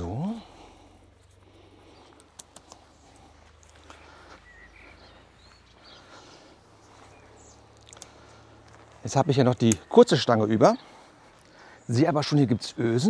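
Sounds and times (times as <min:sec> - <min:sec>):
faint bird chirps: 0:01.8 - 0:13.0.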